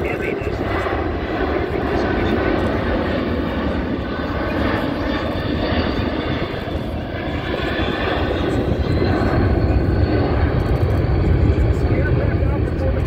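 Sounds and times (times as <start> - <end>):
jet engines rumbling with whine: 0.0 - 13.0.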